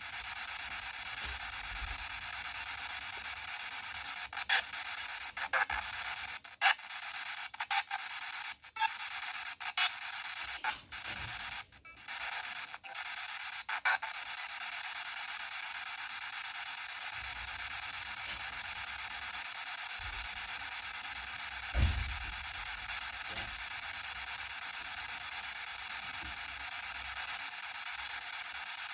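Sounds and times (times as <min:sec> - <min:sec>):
radio static hiss: 0:00.0 - 0:28.9
short radio clicks and bursts: 0:00.0 - 0:28.9.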